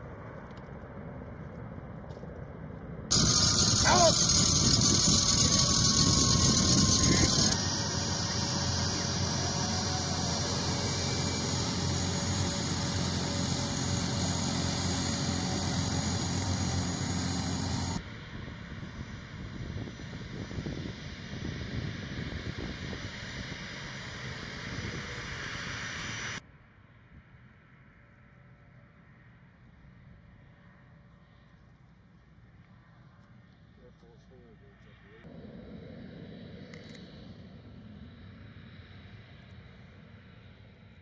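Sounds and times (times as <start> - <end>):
jet engines rushing with whine: 0.0 - 26.4, 27.0 - 41.0
piston aircraft engine running: 0.2 - 26.4, 29.4 - 41.0.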